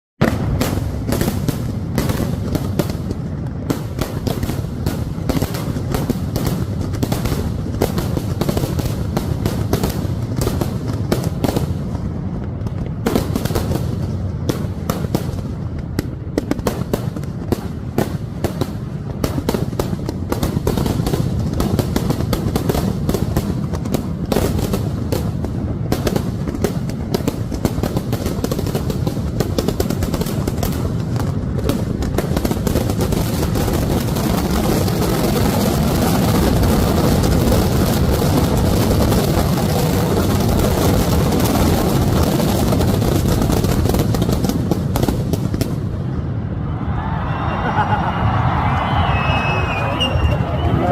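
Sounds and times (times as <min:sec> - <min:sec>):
firecracker barrage: 0:00.2 - 0:50.9.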